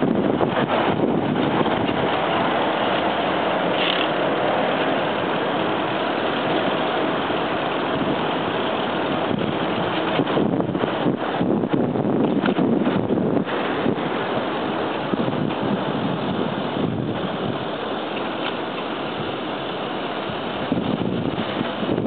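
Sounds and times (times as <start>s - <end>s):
wind on microphone: 0.0s - 4.6s, 5.2s - 17.9s, 20.1s - 22.0s
street traffic: 0.0s - 22.0s.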